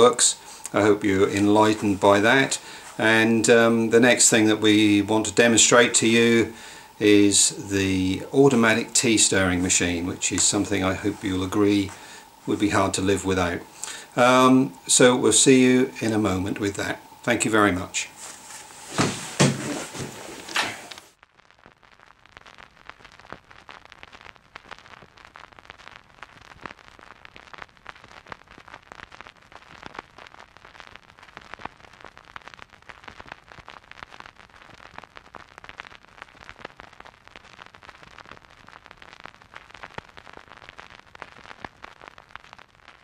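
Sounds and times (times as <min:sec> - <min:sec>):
old film crackle: 0:00.0 - 0:43.0.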